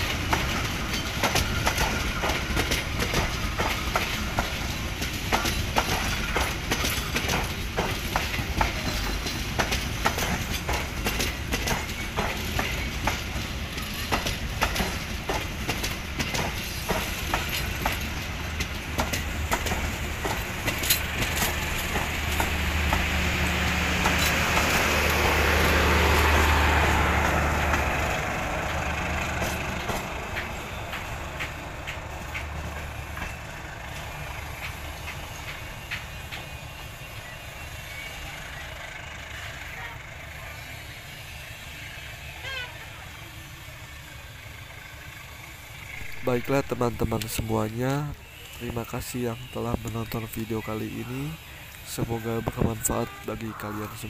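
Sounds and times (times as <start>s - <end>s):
low train hum: 0.0s - 54.0s
train rushing noise: 0.0s - 54.0s
train wheels clicking over rail joints: 0.0s - 54.0s.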